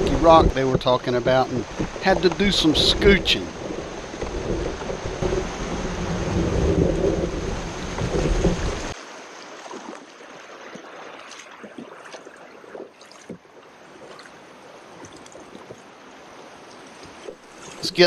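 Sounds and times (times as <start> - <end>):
paddle splashes and knocks: 0.0 - 18.0
river water gurgling: 0.0 - 18.0.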